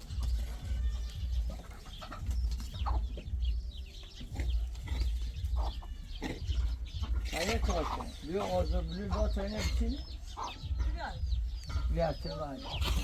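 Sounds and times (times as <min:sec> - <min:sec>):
chickens clucking: 0:00.0 - 0:13.0
low pulsing rumble: 0:00.0 - 0:13.0.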